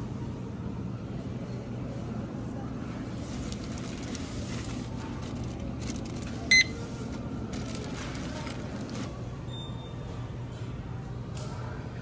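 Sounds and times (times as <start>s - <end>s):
refrigerated shelves humming: 0.0s - 12.0s.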